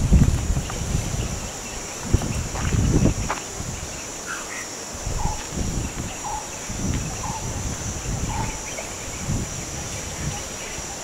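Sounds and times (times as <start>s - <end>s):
high insect buzz: 0.0s - 11.0s.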